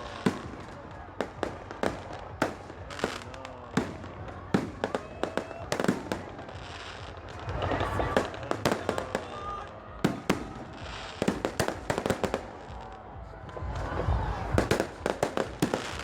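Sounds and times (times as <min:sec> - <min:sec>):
fireworks and firecrackers banging: 0:00.0 - 0:16.0
people's voices: 0:00.0 - 0:16.0.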